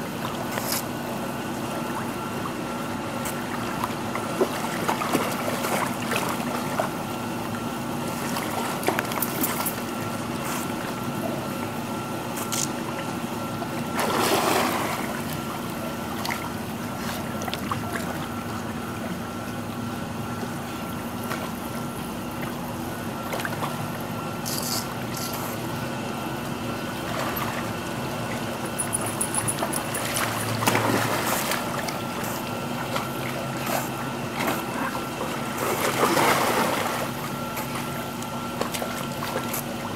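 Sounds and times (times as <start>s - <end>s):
faint steady hum: 0.0s - 39.9s
pool water splashing: 0.0s - 39.9s.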